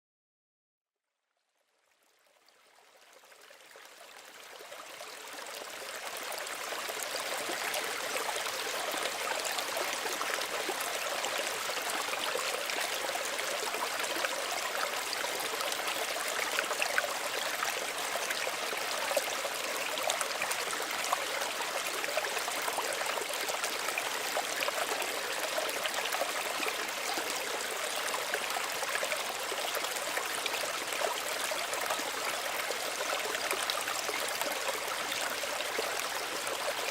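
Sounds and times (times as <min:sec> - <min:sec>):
stream trickling: 0:01.4 - 0:36.9.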